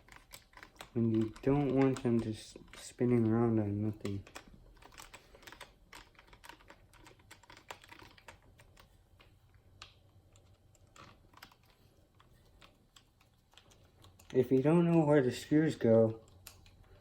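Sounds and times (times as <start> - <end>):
screws and wrench tapping plastic: 0.0 - 15.1.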